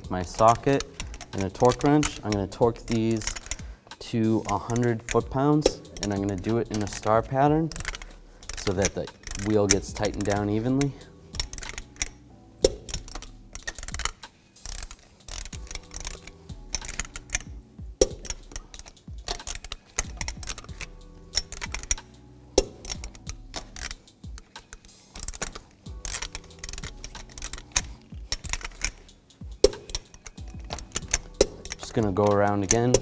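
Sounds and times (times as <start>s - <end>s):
torque wrench ratchet clicking: 0.1s - 33.0s
torque wrench sharp clicks: 0.4s - 33.0s.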